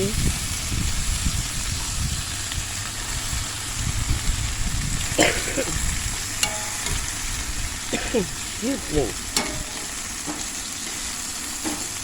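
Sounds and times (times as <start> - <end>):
camp stove rumble: 0.0 - 12.0
chicken sizzling in a skillet: 0.0 - 12.0.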